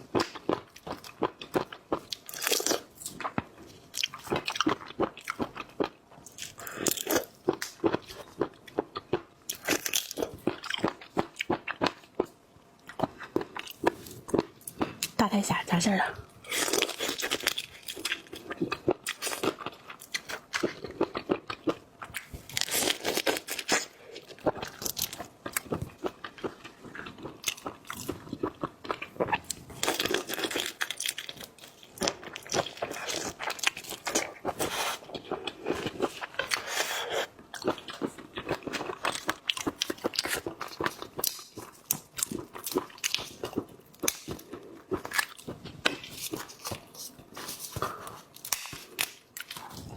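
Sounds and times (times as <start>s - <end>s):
chewing crunchy seafood: 0.0s - 15.2s, 16.4s - 49.9s.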